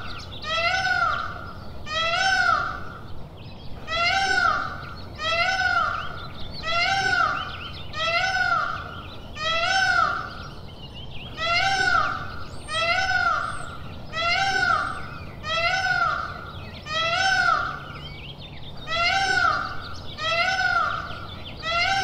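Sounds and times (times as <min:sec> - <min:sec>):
peacock calling: 0:00.0 - 0:03.1, 0:03.8 - 0:10.6, 0:11.3 - 0:22.0.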